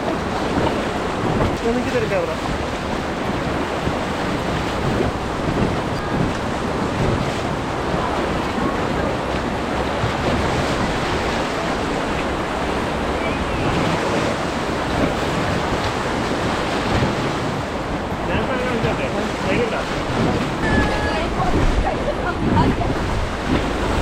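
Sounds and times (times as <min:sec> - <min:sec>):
river rapids rushing: 0:00.0 - 0:24.0
wind buffeting microphone: 0:00.0 - 0:24.0.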